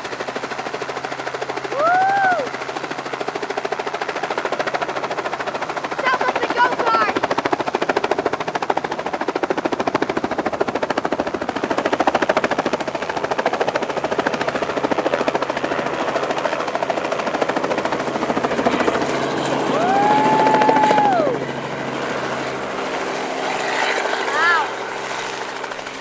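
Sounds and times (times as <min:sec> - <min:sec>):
helicopter rotor chopping: 0:00.0 - 0:26.0.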